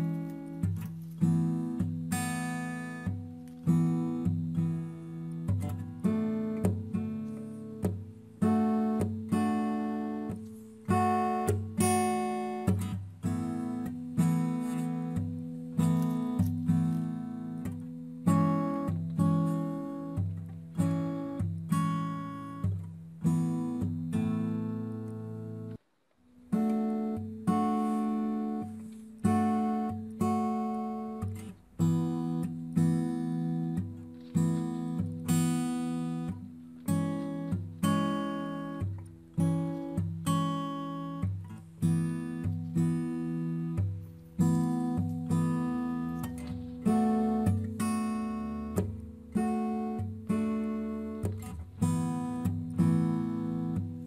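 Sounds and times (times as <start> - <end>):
acoustic guitar music: 0.0 - 54.0.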